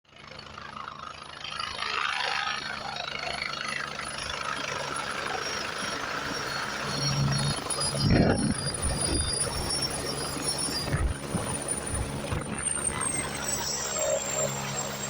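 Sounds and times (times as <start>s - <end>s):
helicopter engine and rotor: 0.1s - 15.0s.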